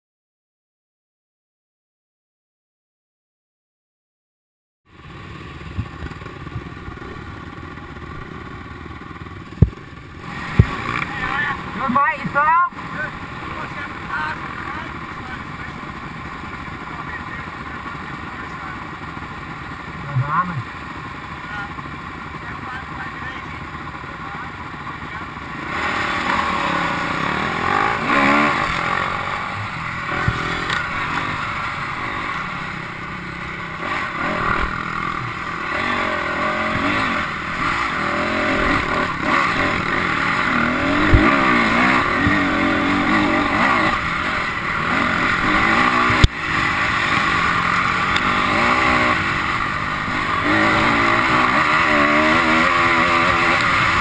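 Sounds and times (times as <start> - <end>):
dirt bike engine revving: 5.6 - 54.0.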